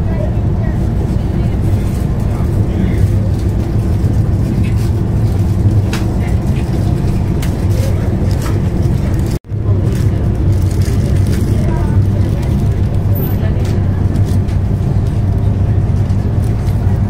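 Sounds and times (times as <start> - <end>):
train rumble inside coach: 0.0 - 17.0.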